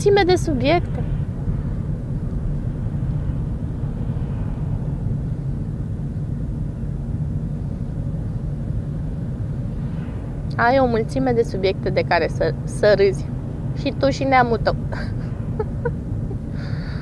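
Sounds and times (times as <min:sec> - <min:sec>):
car engine: 0:00.0 - 0:17.0
road noise: 0:00.0 - 0:17.0.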